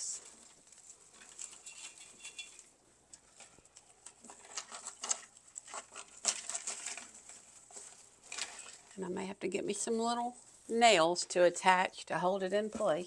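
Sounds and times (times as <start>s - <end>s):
dried garland rustling and crackling: 0.0s - 13.0s.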